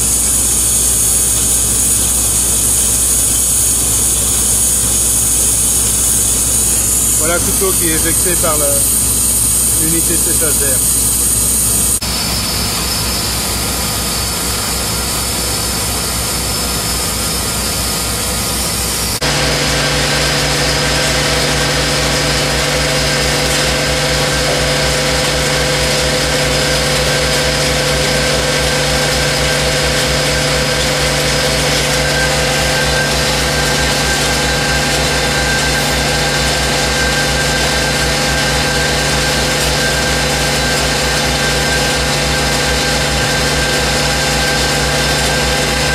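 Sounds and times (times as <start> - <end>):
air compressor running: 0.0 - 45.9
pump humming with high whine: 0.0 - 45.9.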